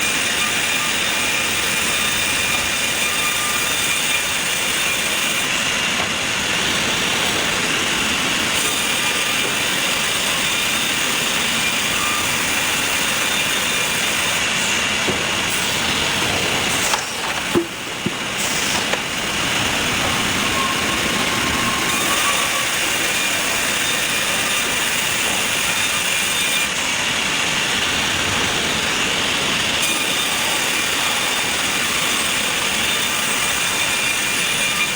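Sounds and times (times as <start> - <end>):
sawmill machinery running: 0.0 - 34.9.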